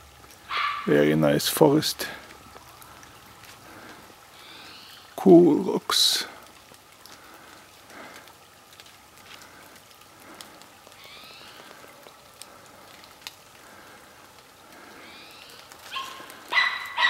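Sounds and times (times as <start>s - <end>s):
rain falling on forest: 0.0s - 17.0s
water drips ticking: 0.0s - 17.0s.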